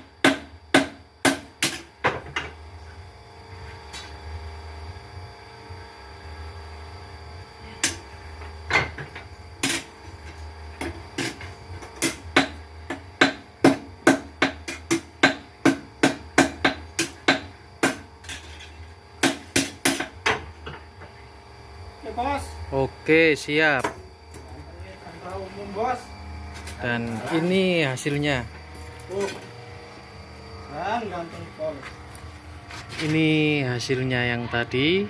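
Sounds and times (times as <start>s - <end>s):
motor hum: 2.0s - 35.0s.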